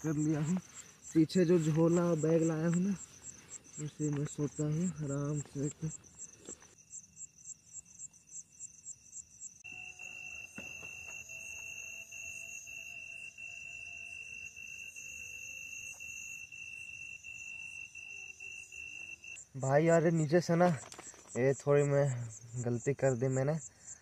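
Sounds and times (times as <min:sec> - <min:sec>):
insects chirping: 0:00.0 - 0:24.0
shrill insect trill: 0:00.0 - 0:24.0.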